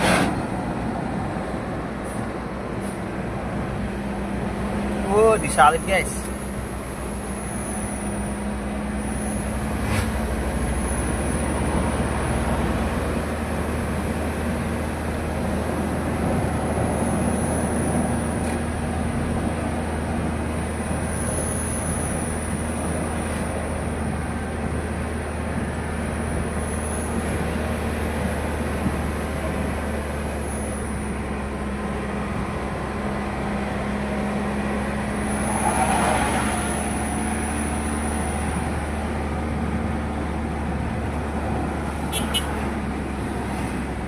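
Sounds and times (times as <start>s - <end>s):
road noise: 0.0s - 44.0s
vehicle engine hum: 0.0s - 44.0s.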